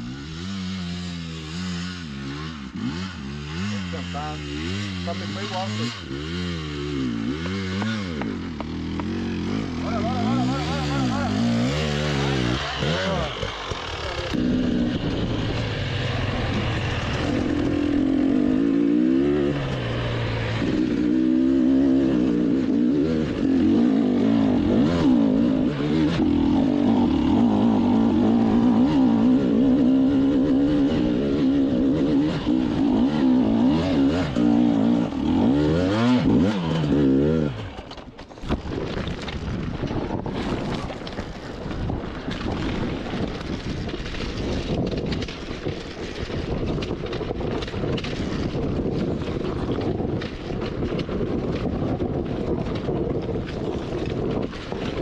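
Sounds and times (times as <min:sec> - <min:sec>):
motorcycle engine revving: 0:00.0 - 0:55.0
rough rushing noise: 0:03.8 - 0:55.0.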